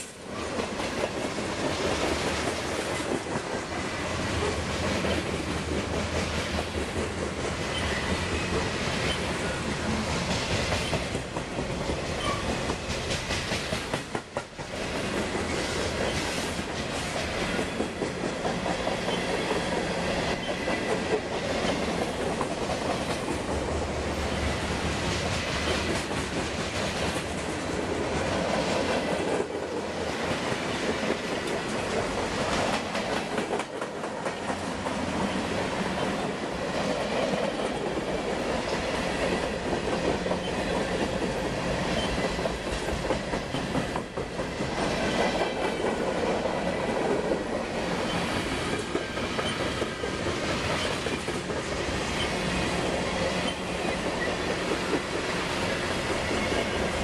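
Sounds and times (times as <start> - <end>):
freight train rumbling and rattling: 0.0 - 57.0
wheels clicking over rail joints: 0.4 - 57.0.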